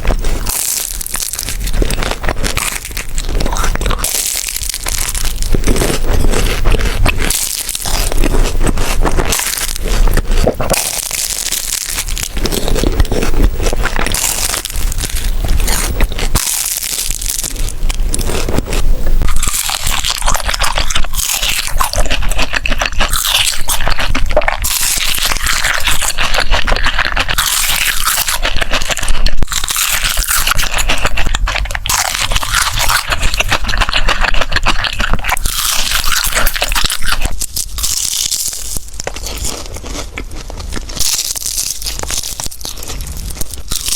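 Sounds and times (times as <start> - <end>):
crunching flaky pastry: 0.0 - 43.9.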